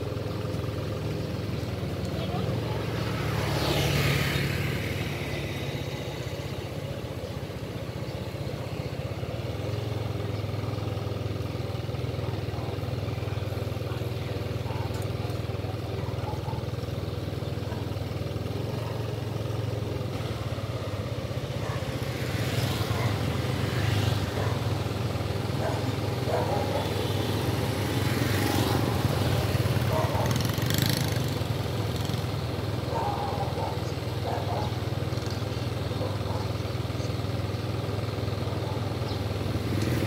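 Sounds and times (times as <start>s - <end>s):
motorbike engine humming: 0.0s - 40.0s
street traffic: 0.0s - 40.0s.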